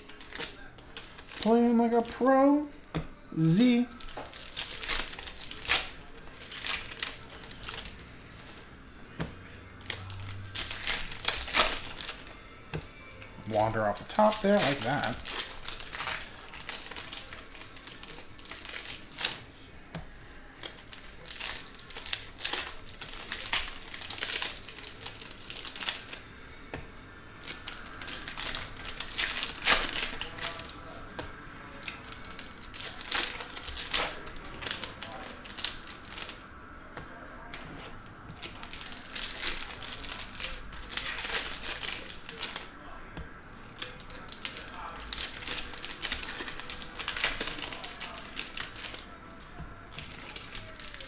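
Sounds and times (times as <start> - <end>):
foil wrappers crinkling: 0.0 - 2.8, 3.4 - 8.7, 9.7 - 26.7, 27.3 - 31.0, 31.6 - 43.0, 43.6 - 51.0.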